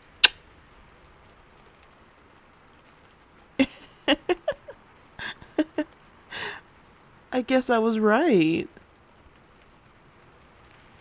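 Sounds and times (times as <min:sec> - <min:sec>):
faint rain hiss: 0:00.0 - 0:11.0.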